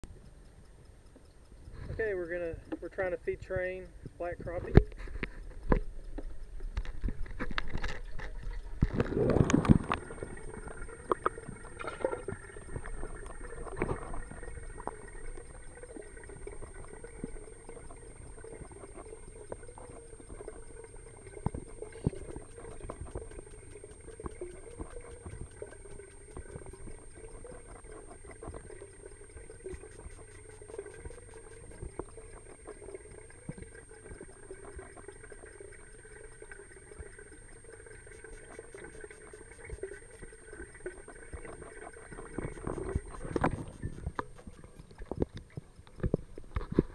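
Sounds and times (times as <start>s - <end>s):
small ticks: 0.0s - 46.9s
steady hum: 0.1s - 46.9s
water trickling and splashing: 1.7s - 46.9s.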